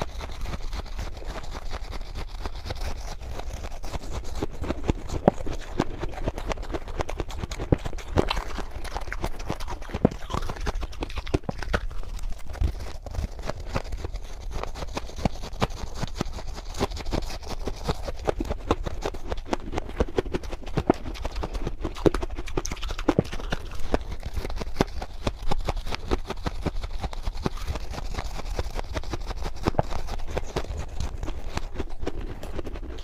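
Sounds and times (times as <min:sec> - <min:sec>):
frost crunching and squeaking: 0:00.0 - 0:33.0.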